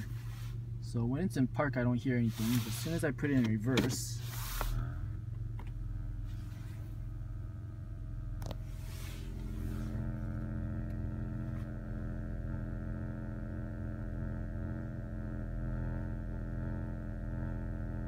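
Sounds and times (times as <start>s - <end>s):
car speaker buzzing: 0.0s - 18.0s.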